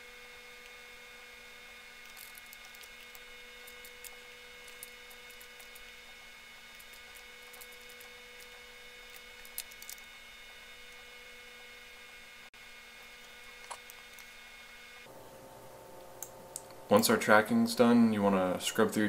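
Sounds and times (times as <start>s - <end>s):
whining tones: 0.0s - 16.3s
electrical hum: 0.0s - 19.0s.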